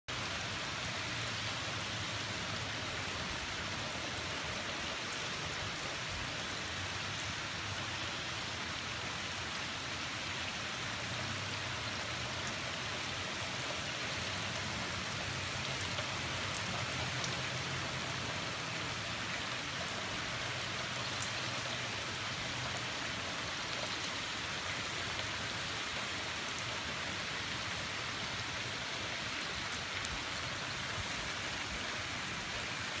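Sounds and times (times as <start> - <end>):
heavy rain: 0.1 - 33.0.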